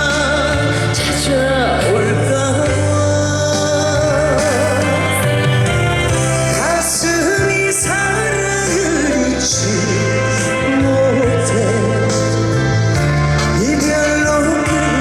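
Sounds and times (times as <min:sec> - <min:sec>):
band backing track: 0:00.0 - 0:15.0
man singing with vibrato: 0:00.0 - 0:15.0.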